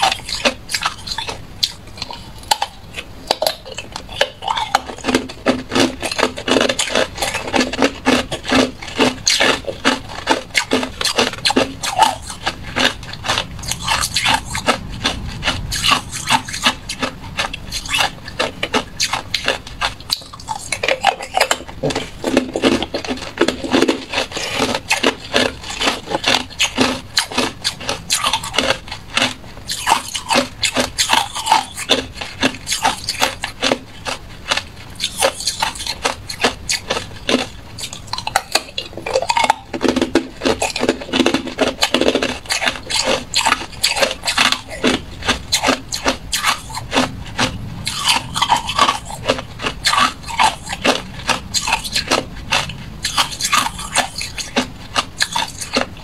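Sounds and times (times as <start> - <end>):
ice cubes crunched between teeth: 0.0 - 56.0.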